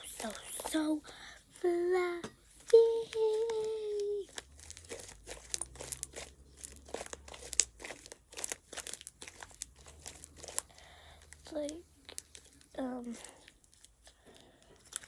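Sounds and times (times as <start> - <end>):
slime squeezed crackling: 0.0 - 0.8, 2.6 - 15.0.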